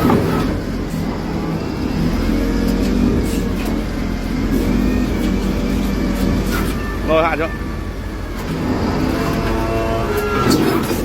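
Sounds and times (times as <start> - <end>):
large engine running: 0.0 - 11.0.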